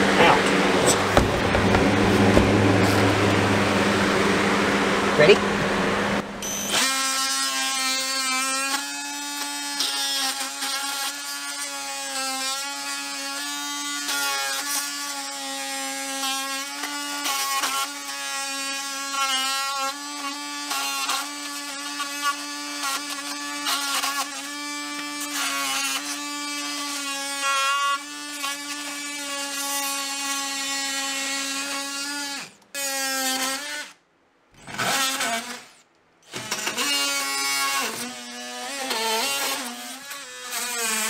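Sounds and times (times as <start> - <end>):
oscillating multi-tool buzzing: 6.4 - 34.0, 34.6 - 41.0.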